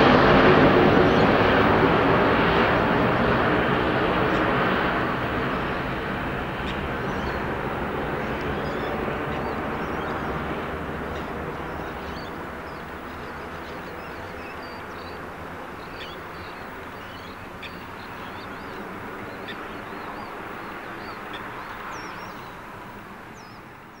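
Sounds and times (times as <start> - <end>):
jet engines rumbling: 0.0 - 24.0
small birds chirping: 4.3 - 24.0.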